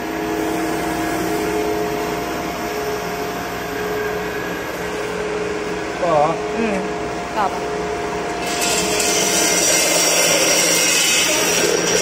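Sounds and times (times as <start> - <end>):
grinder motor humming and whirring: 0.0 - 12.0.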